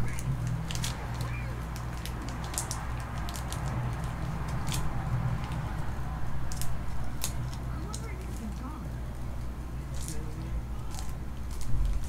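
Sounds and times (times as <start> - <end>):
steady low hum: 0.0 - 12.0
trading cards clicking and rustling: 0.0 - 12.0.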